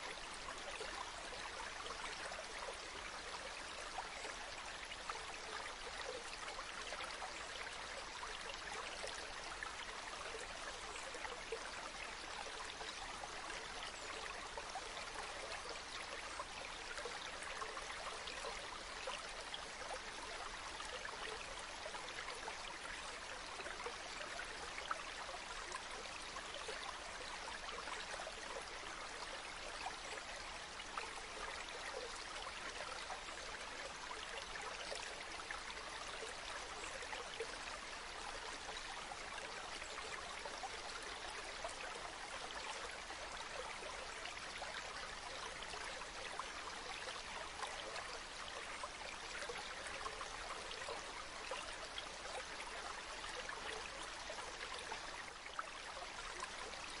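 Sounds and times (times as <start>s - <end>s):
stream flowing water: 0.0s - 57.0s.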